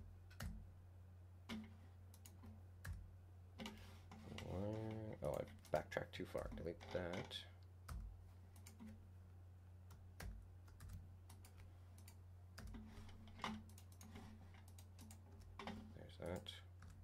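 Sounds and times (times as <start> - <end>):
faint low hum: 0.0 - 17.0
keyboard and mouse clicks: 0.3 - 0.6, 1.5 - 9.0, 9.9 - 17.0.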